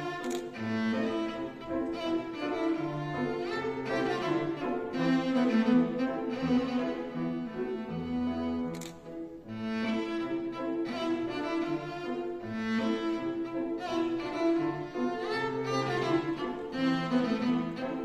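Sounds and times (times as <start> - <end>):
cello bowed melody: 0.0 - 18.0
grand piano: 0.0 - 18.0.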